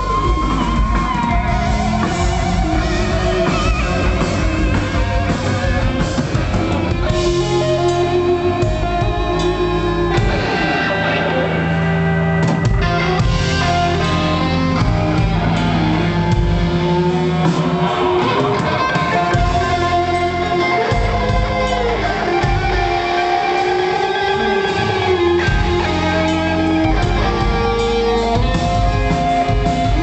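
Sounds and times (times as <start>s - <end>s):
electric guitar: 0.0s - 30.0s
live rock band playing: 0.0s - 30.0s
steady bass line: 0.0s - 30.0s.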